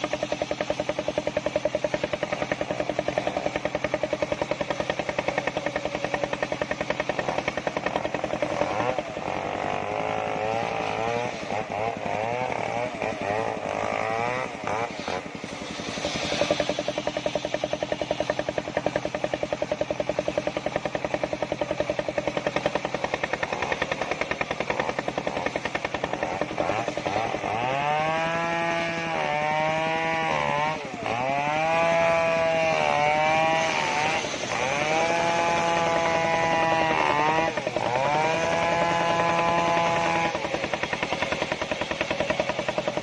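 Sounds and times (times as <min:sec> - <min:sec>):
circular saw cutting a log: 0:00.0 - 0:43.0
saw blade whine: 0:00.0 - 0:43.0.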